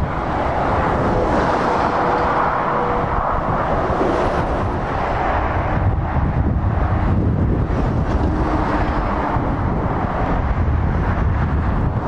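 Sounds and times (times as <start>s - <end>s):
lorry and cars passing: 0.0s - 12.0s
wind rumbling on microphone: 0.0s - 12.0s.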